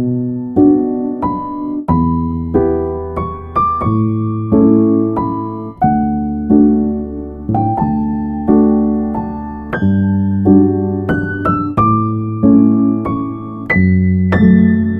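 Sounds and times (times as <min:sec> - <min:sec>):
slow electric piano chords: 0:00.0 - 0:14.9.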